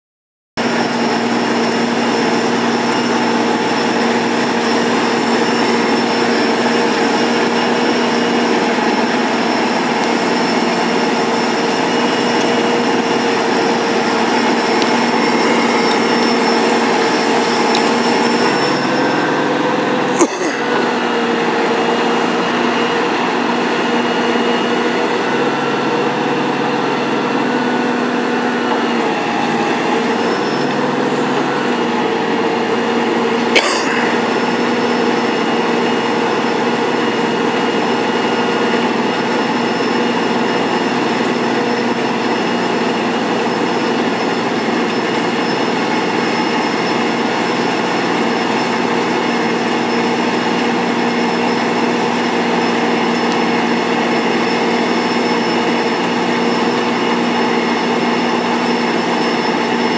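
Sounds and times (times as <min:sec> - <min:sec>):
road milling machine droning: 0:00.6 - 0:59.9.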